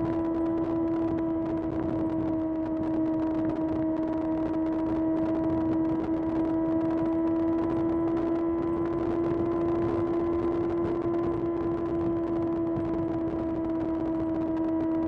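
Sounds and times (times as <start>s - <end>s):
motorcycle engine at steady revs: 0.0s - 15.0s.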